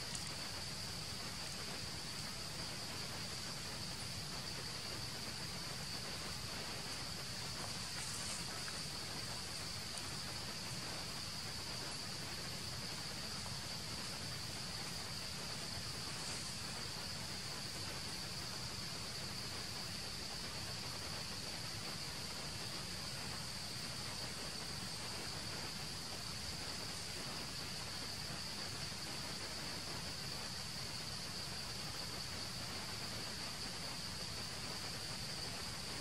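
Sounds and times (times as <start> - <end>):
insects droning: 0.0 - 36.0
soft outdoor hiss: 0.0 - 36.0.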